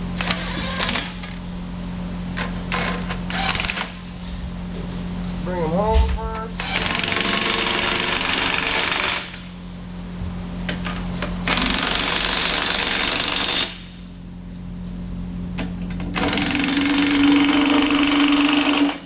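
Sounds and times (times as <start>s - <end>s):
steady low hum: 0.0s - 13.0s, 13.6s - 18.9s.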